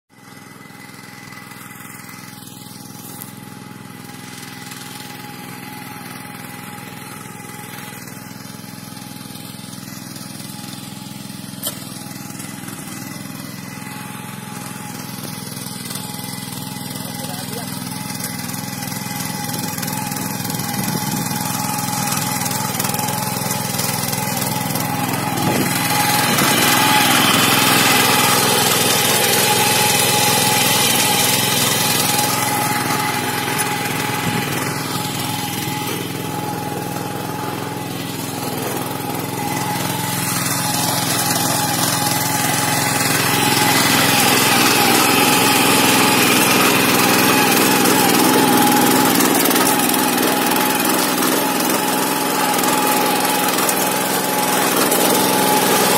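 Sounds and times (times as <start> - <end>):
petrol engine running: 0.2 - 55.9.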